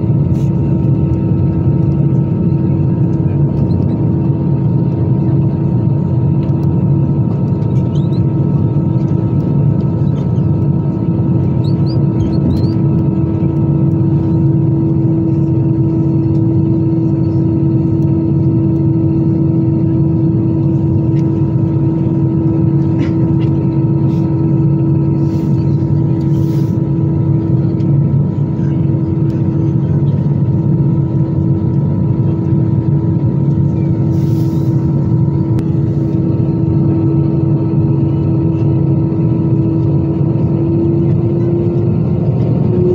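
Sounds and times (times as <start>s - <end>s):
jet engines droning in cabin: 0.0s - 42.9s
steady whining tones: 0.0s - 42.9s.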